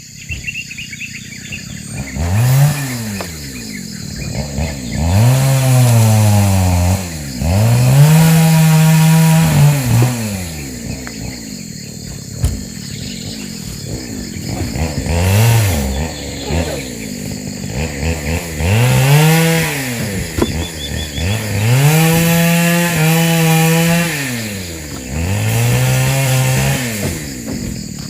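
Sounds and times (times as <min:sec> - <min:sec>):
chainsaw revving: 0:01.4 - 0:28.0.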